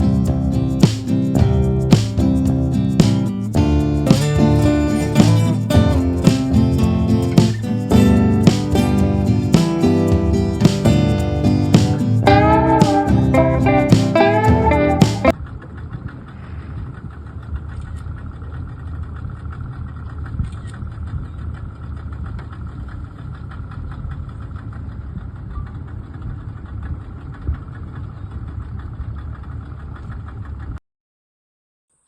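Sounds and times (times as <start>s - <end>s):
engine running: 0.0s - 30.7s.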